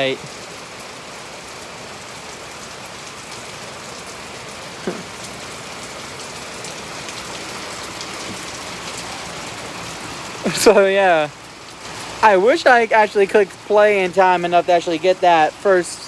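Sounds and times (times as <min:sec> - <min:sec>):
rain pattering on metal awning: 0:00.0 - 0:16.0
sharp drips: 0:00.0 - 0:16.0.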